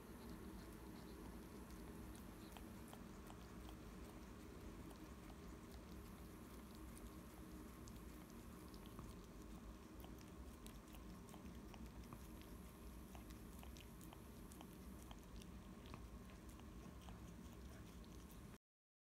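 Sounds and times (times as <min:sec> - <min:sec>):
low room hum: 0:00.0 - 0:18.6.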